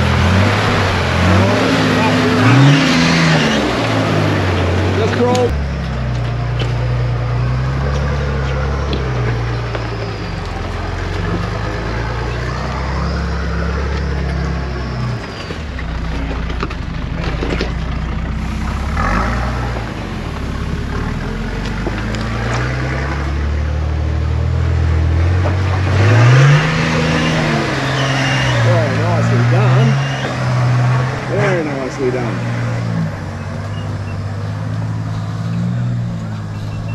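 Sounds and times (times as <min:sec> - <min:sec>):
off-road vehicle engine revving: 0:00.0 - 0:36.9.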